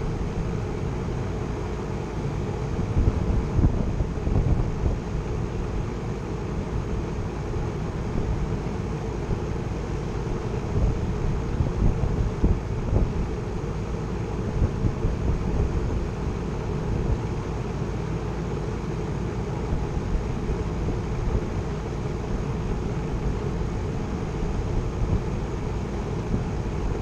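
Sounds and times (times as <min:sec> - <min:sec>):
heat pump humming: 0:00.0 - 0:27.0.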